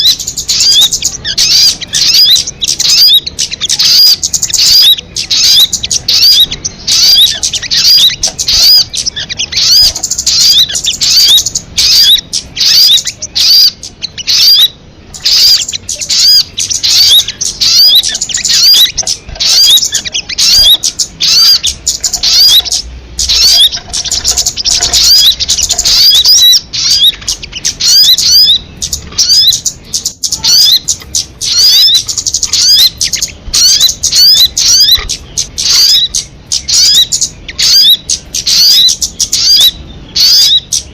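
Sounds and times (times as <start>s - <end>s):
bird singing high sweeping chirps: 0.0s - 40.9s.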